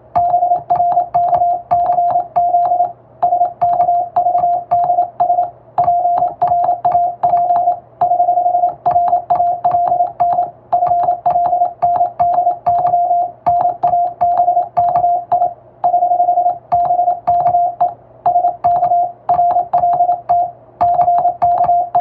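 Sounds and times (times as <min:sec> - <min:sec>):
telegraph key clicks: 0:00.2 - 0:15.5, 0:16.5 - 0:22.0
morse code tone: 0:00.2 - 0:22.0.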